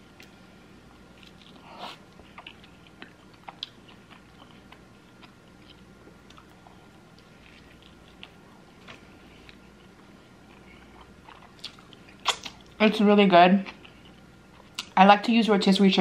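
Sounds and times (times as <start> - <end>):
person chewing: 1.1 - 12.8, 13.6 - 15.0.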